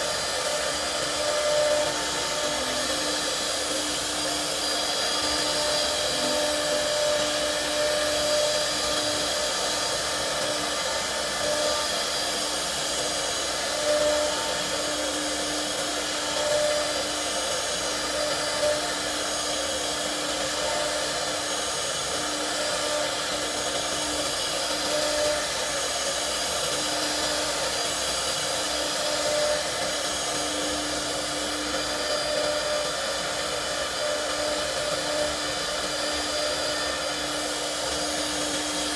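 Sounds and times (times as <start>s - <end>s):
router spindle running: 0.0s - 38.9s.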